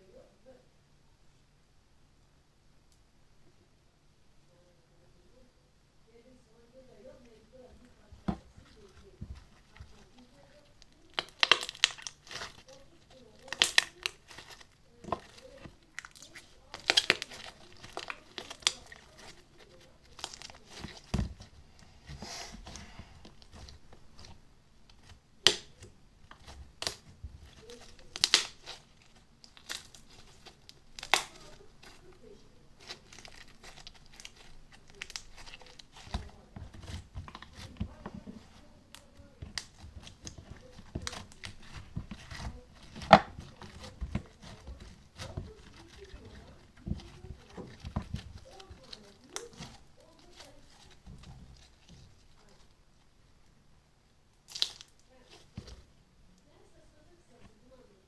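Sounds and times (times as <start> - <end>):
sticky crackles and pops: 7.8 - 53.6, 54.3 - 55.9.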